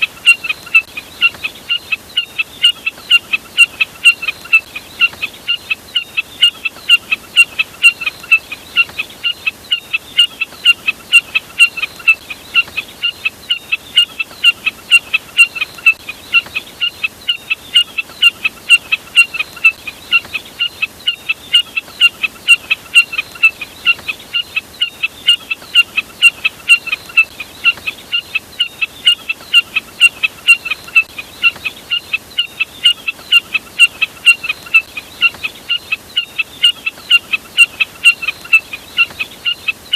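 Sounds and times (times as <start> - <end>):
jack snipe calling: 0.0 - 39.9.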